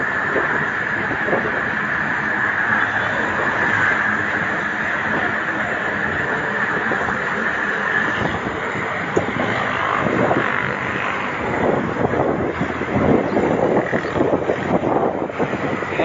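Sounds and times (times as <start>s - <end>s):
rushing road and traffic noise: 0.0s - 16.0s
wind on microphone: 0.0s - 16.0s.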